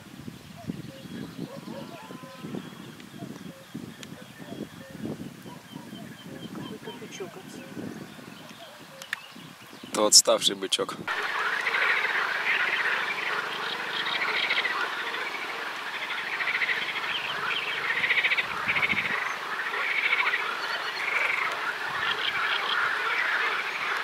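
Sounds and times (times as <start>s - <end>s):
frogs croaking: 0.6s - 9.2s, 11.1s - 24.0s.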